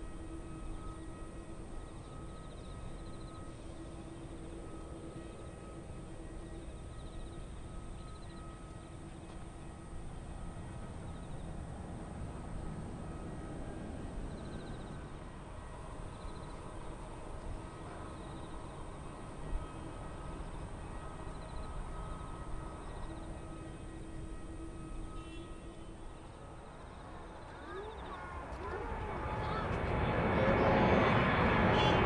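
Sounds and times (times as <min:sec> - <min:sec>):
jet engines at take-off thrust: 0:00.0 - 0:32.0.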